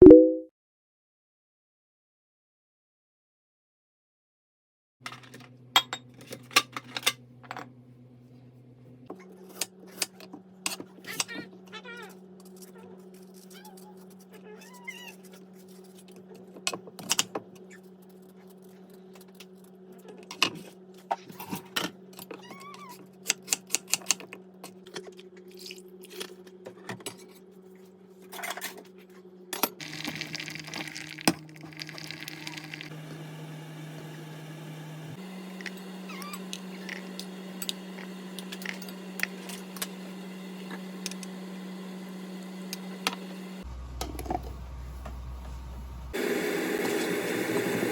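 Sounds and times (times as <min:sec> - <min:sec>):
low background hum: 0:05.0 - 0:32.9, 0:35.4 - 0:46.2.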